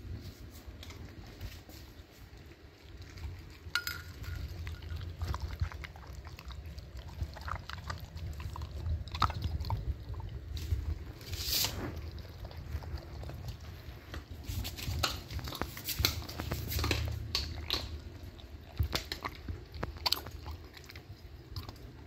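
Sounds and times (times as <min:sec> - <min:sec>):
dog chewing wetly: 0:00.6 - 0:22.0.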